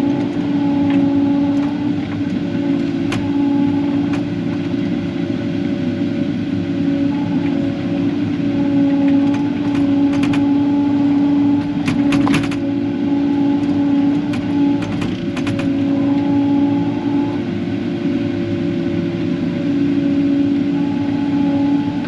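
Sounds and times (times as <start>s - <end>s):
diesel excavator running: 0.0s - 22.0s.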